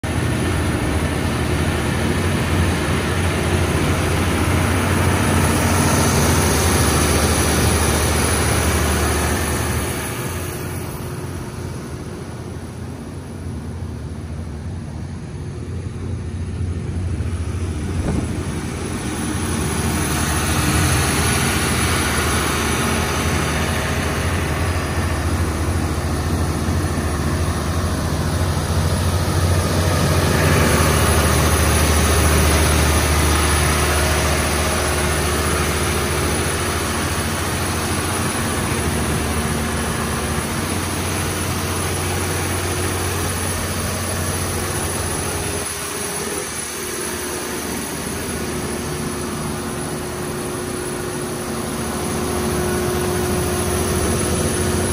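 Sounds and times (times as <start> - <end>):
diesel generator engine running: 0.0 - 54.9.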